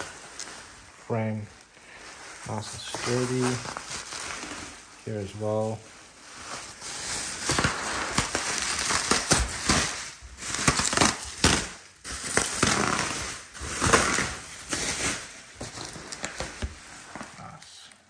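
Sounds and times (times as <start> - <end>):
bubble wrap rustling and crinkling: 0.0 - 18.0.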